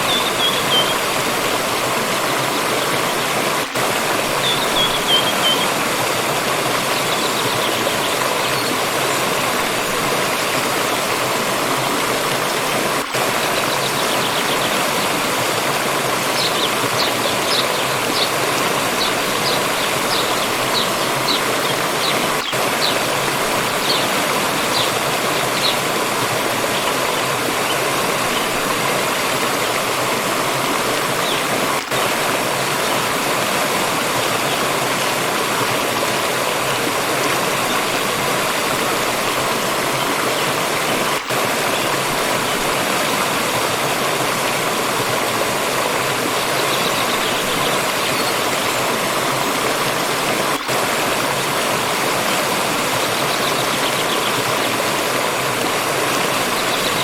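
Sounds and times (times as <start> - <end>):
water stream running: 0.0 - 57.0.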